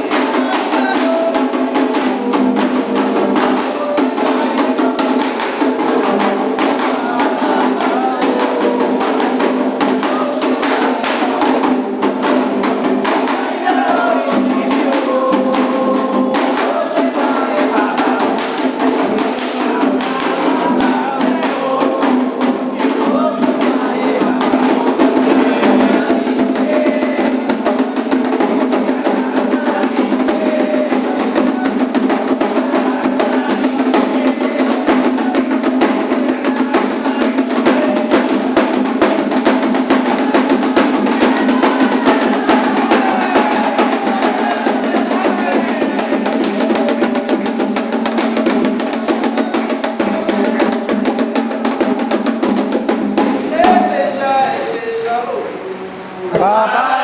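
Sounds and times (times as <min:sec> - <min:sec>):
fast hand drumming: 0:00.0 - 0:54.6
group singing: 0:00.0 - 0:57.0.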